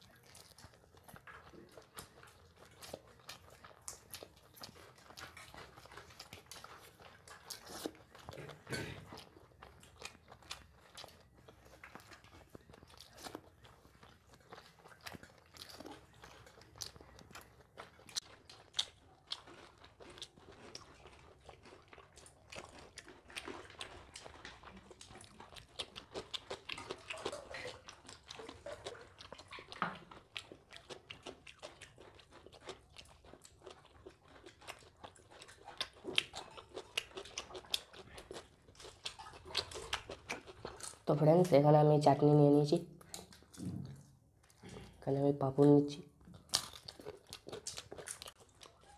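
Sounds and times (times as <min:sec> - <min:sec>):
person chewing and biting: 0:00.0 - 0:41.1, 0:43.0 - 0:45.0, 0:46.1 - 0:48.9.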